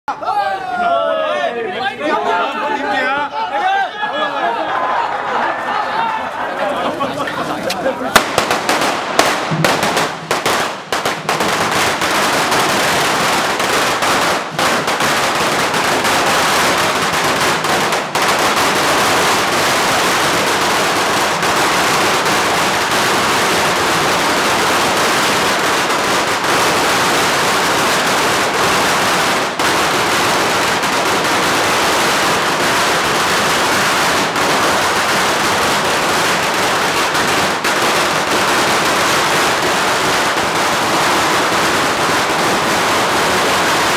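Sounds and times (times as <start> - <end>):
firecrackers crackling: 5.5 - 43.9.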